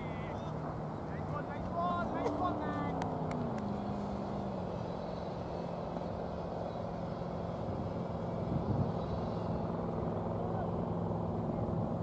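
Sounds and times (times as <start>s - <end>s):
engine-like hum: 0.0s - 12.0s
outdoor background noise: 0.0s - 12.0s.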